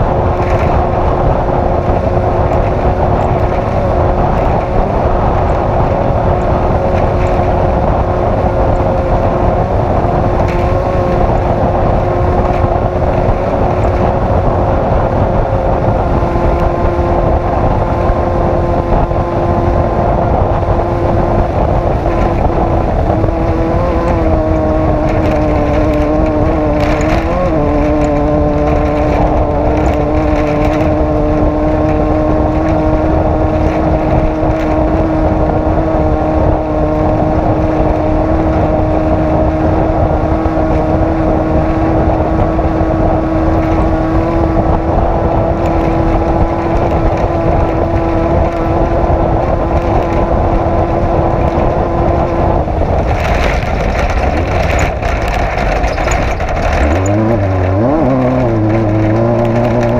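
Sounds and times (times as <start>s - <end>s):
race vehicle engine running hard: 0.0s - 59.9s
wind and driveline noise: 0.0s - 59.9s.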